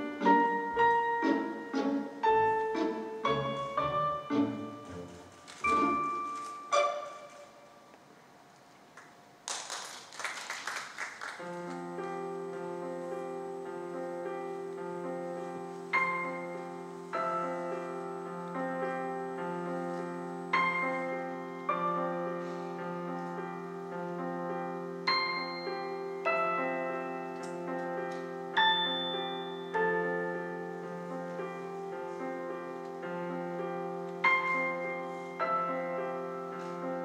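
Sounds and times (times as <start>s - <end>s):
slow piano music: 0.0s - 8.5s, 11.3s - 37.0s.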